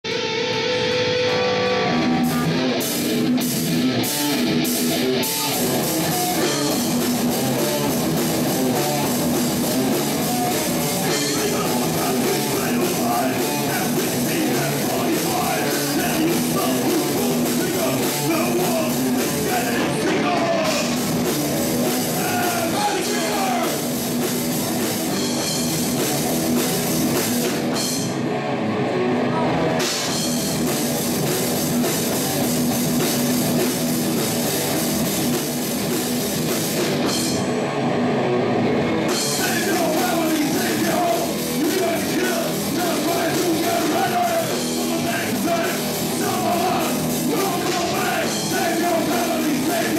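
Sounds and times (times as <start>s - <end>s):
heavy rock band playing: 0.0s - 49.9s.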